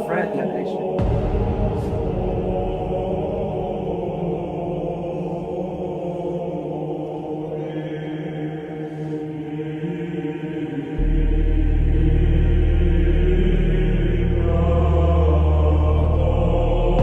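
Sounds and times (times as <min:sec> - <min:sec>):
chant-like drone music: 0:00.0 - 0:17.0.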